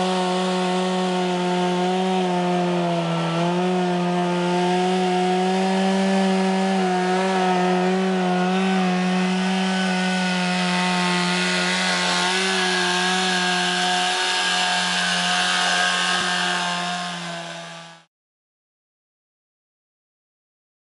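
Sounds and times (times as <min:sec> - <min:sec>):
two-stroke chainsaw engine running: 0:00.0 - 0:18.1.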